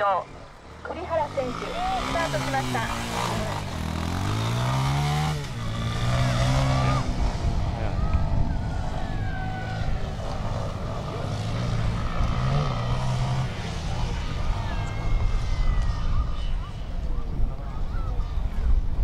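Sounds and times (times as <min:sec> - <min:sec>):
motorcycle engine revving: 0:00.7 - 0:18.6.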